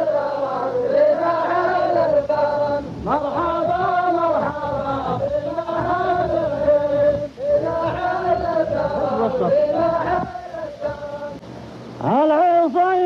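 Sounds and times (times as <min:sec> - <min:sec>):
men chanting in unison: 0:00.0 - 0:11.4.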